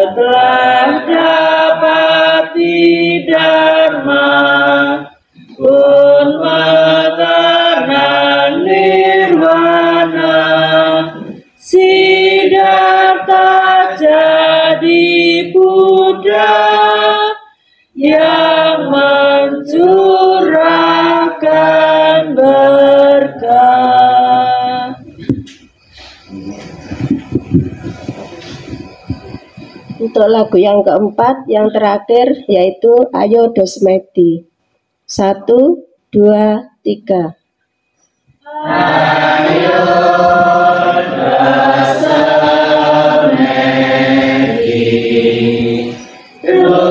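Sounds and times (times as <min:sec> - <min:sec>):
congregation singing: 0:00.0 - 0:30.2, 0:38.4 - 0:46.9.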